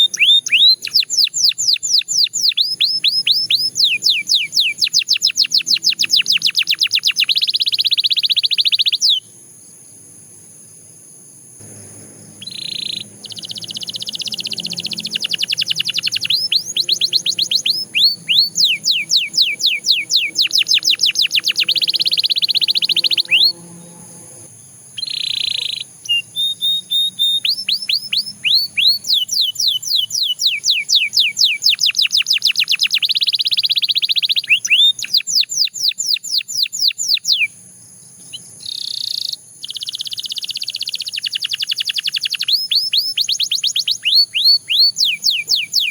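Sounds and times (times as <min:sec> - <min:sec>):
canary singing trills: 0:00.0 - 0:09.4, 0:11.6 - 0:45.9.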